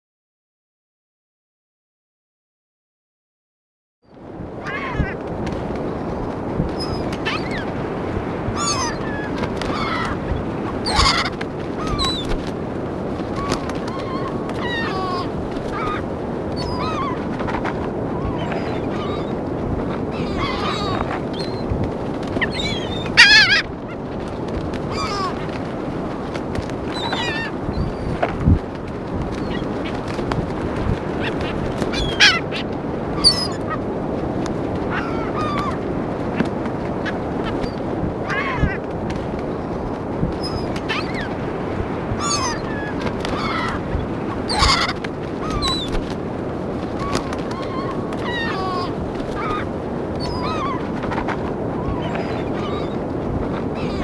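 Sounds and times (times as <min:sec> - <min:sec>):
gulls calling: 0:04.5 - 0:05.2, 0:05.8 - 0:33.9, 0:34.9 - 0:38.8, 0:39.4 - 0:54.0.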